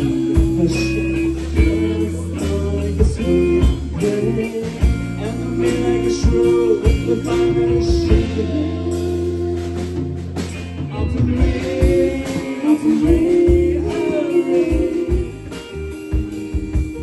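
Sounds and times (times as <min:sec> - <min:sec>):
person singing: 0:00.0 - 0:15.8
band playing rock song: 0:00.0 - 0:17.0.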